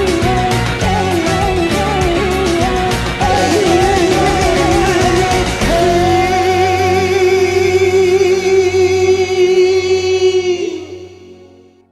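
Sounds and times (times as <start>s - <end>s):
karaoke backing track: 0.0s - 11.6s
person singing with vibrato: 0.0s - 11.7s.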